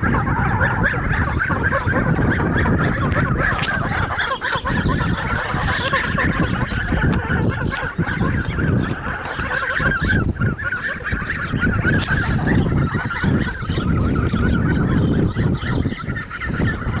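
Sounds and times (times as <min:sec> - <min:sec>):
geese calling: 0:00.0 - 0:17.0.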